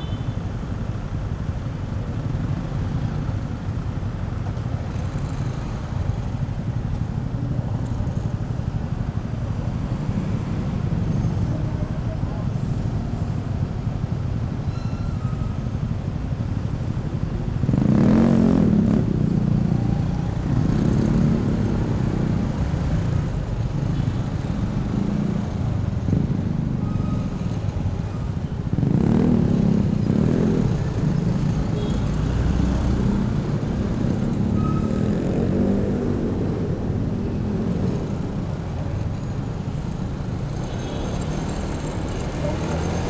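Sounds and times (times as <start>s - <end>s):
surrounding traffic noise: 0.0s - 43.0s.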